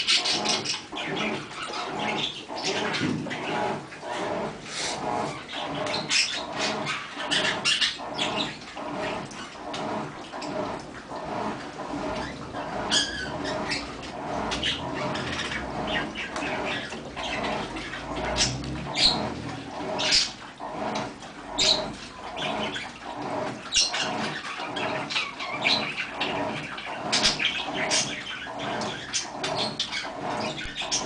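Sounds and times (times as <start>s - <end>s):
washing machine churning: 0.0s - 31.0s
water and clothes sloshing: 0.0s - 31.0s.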